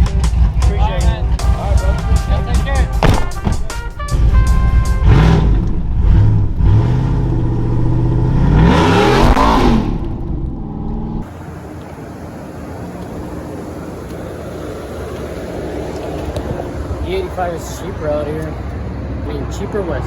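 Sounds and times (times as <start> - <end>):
truck engine revving: 0.0 - 19.8
steady road noise: 0.0 - 20.0.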